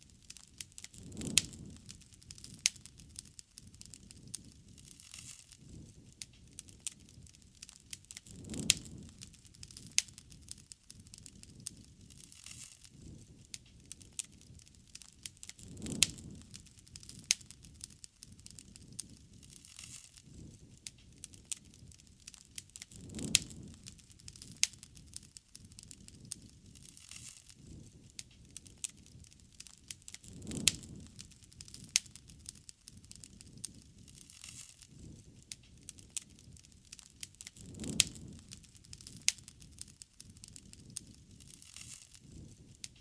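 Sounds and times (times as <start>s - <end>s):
low rush of flame: 0.0s - 43.0s
wood fire crackling: 0.0s - 43.0s.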